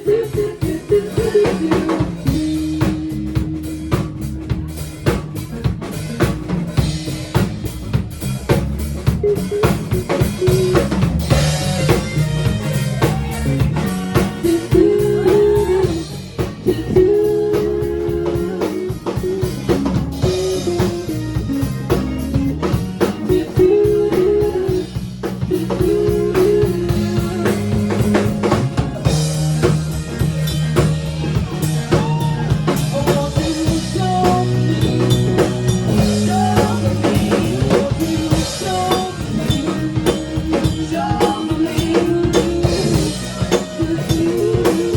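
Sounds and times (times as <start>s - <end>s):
band with drums bass and guitar: 0.0s - 44.9s.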